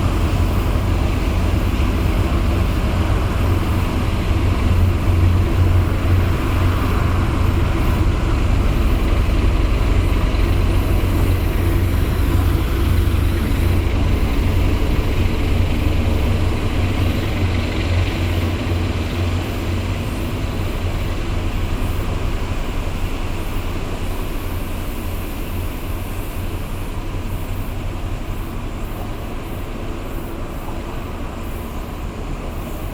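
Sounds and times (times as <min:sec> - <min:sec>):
tugboat diesel engines droning: 0:00.0 - 0:32.9.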